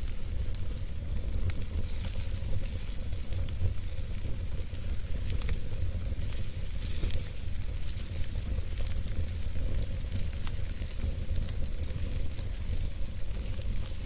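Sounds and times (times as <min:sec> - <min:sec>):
fire burning in a fireplace: 0:00.0 - 0:14.0
sharp fire crackles: 0:00.0 - 0:14.0.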